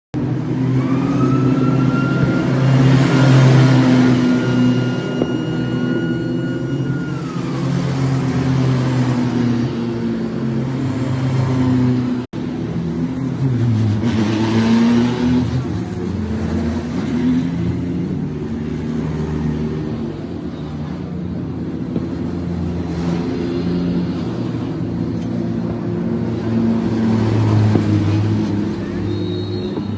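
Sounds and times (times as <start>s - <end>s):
car engines revving: 0.2s - 29.9s.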